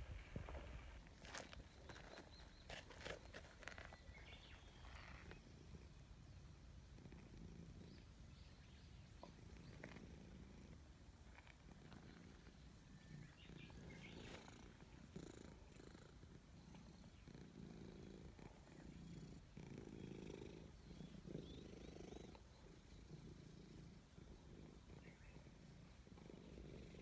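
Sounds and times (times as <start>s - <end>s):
cat purring: 1.3s - 27.0s.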